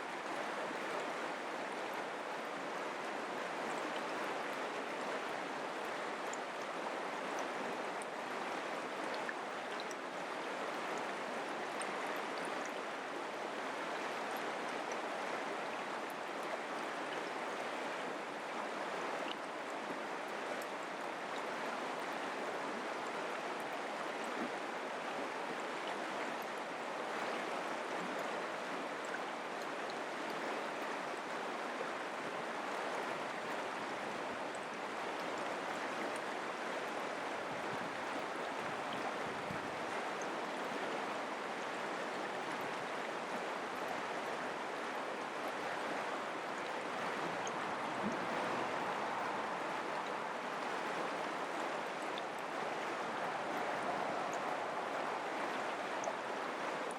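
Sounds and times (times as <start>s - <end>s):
creek water rushing: 0.0s - 56.9s
faint water splashes: 0.0s - 56.9s.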